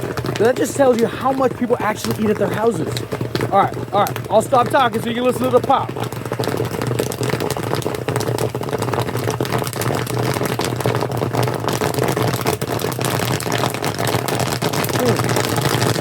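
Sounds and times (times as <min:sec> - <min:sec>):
popcorn popping: 0:00.0 - 0:16.0.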